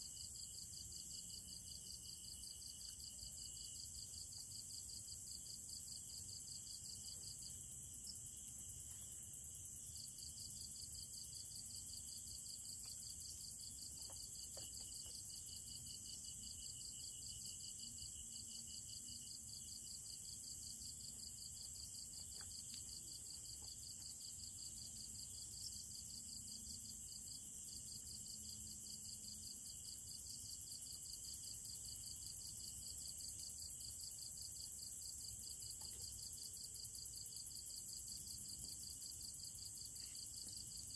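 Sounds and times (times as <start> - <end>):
high insect hiss: 0.0 - 40.9
lower insect trill: 0.0 - 40.9.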